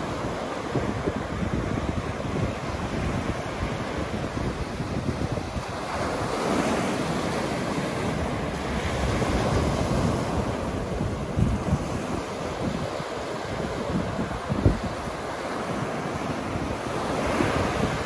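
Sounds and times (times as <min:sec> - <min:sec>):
waves breaking on beach: 0:00.0 - 0:18.0
wind rumbling on microphone: 0:00.0 - 0:18.0.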